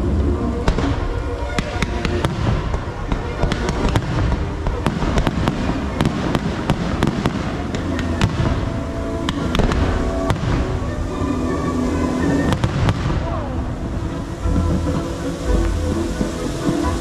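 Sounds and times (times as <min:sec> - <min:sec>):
fireworks cracks and bangs: 0:00.0 - 0:17.0
low rumble: 0:00.0 - 0:17.0.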